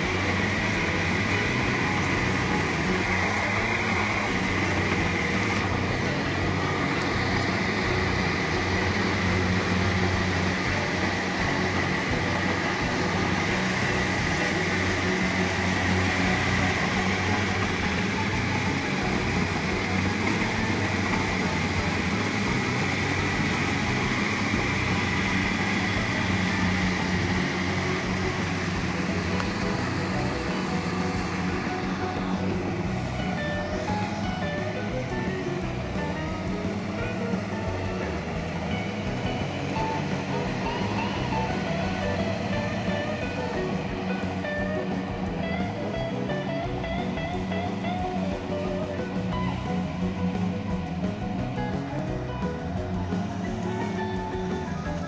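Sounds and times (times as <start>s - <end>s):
combine harvester engine drone: 0.0s - 55.0s
steady high whine: 0.0s - 55.0s.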